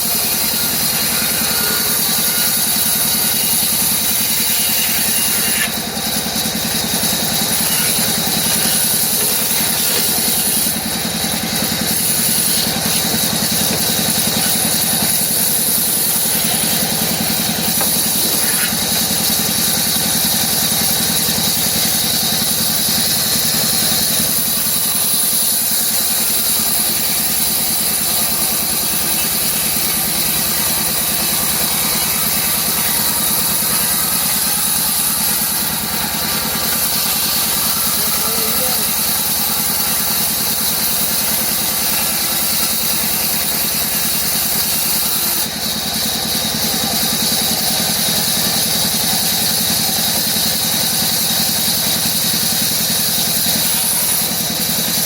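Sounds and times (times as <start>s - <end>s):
cnc router carving wood: 0.0s - 55.0s.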